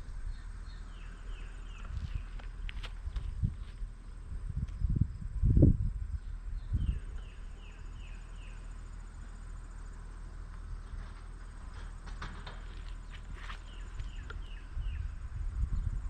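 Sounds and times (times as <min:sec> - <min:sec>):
low outdoor hum: 0:00.0 - 0:16.0.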